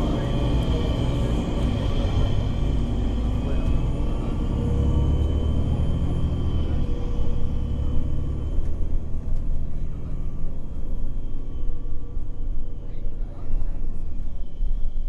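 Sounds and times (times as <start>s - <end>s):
bus engine rumble: 0.0s - 15.0s
steady high whine: 0.0s - 15.0s.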